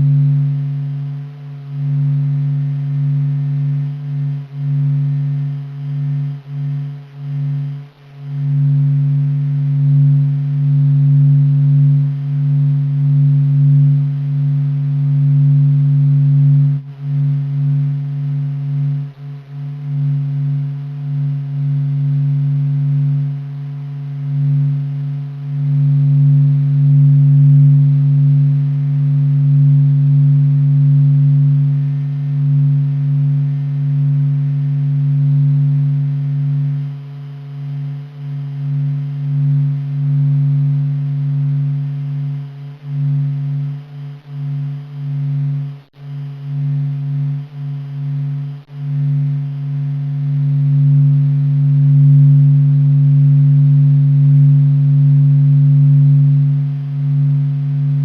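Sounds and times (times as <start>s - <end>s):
low humming drone: 0.0s - 58.0s.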